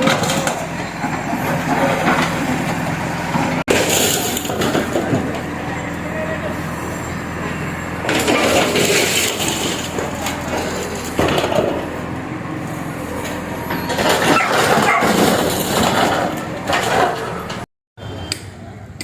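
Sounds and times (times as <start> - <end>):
bulldozer engine running: 0.0 - 18.4.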